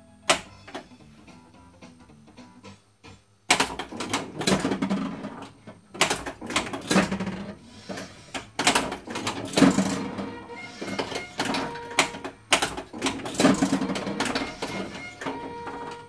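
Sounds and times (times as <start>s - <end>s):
pinball machine clattering: 0.3s - 1.1s, 3.5s - 16.0s.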